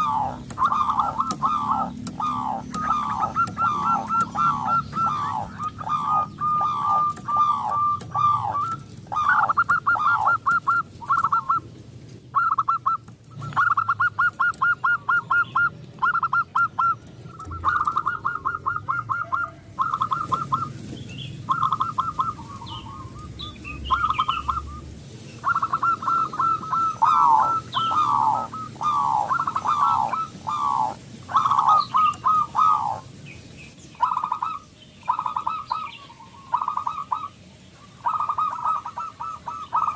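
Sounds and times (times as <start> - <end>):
dove cooing: 0.0 - 33.1, 33.9 - 39.9
small birds chirping: 0.0 - 39.9.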